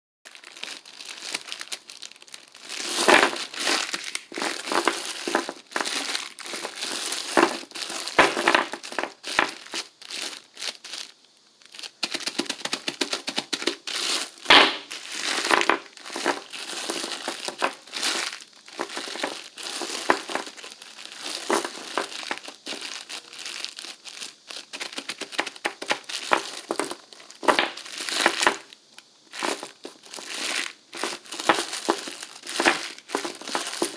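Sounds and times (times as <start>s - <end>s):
plastic pack crinkling: 0.3s - 33.9s.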